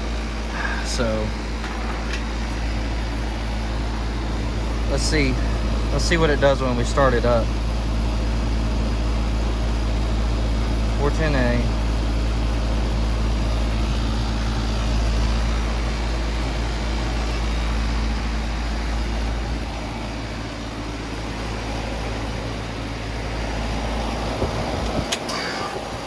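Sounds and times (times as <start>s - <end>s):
compressor hum: 0.0s - 26.0s
condenser fan rushing: 0.0s - 26.0s.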